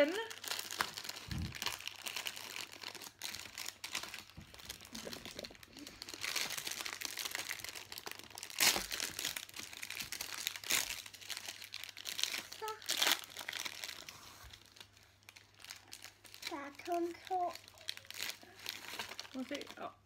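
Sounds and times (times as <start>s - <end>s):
plastic wrapper crinkling: 0.0s - 20.0s.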